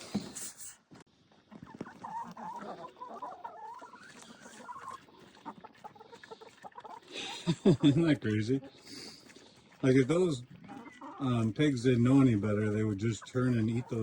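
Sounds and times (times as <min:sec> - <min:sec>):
chickens clucking: 0:01.2 - 0:14.0.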